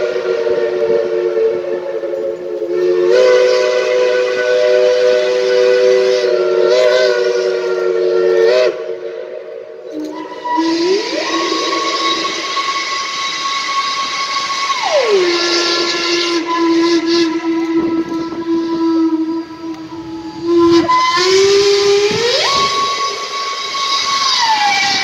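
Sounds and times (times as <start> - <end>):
steam hissing: 0.0 - 25.0
steam locomotive whistles: 0.0 - 25.0.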